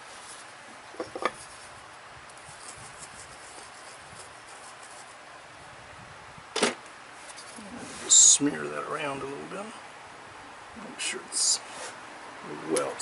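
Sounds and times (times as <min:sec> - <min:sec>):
room hiss: 0:00.0 - 0:13.0.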